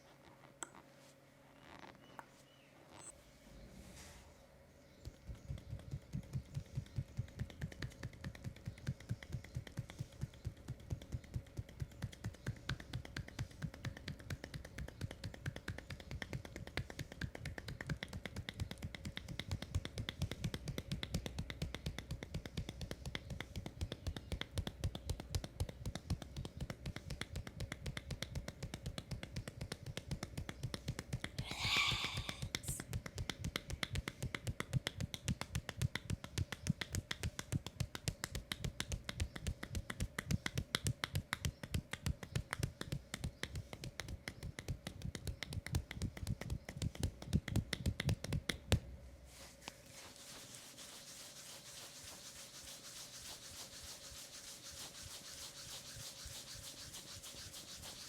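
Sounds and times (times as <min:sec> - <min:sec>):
hands slapping on a leg: 0:05.0 - 0:58.0.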